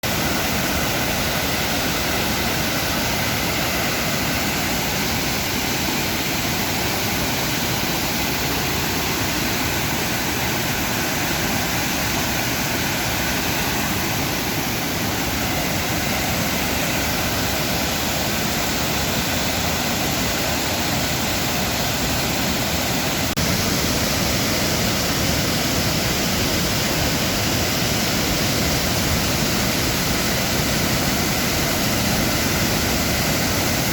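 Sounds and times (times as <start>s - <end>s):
fast-flowing water: 0.0s - 33.9s.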